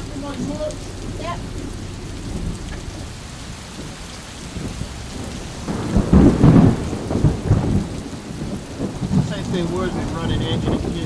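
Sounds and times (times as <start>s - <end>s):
gale wind gusting: 0.0s - 11.0s.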